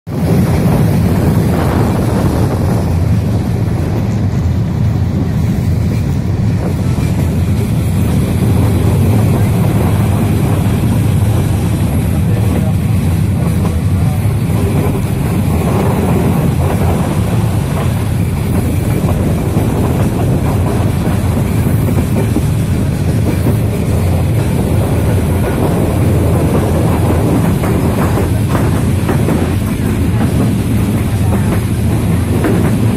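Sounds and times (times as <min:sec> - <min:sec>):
train wheels rumbling: 0:00.1 - 0:32.9.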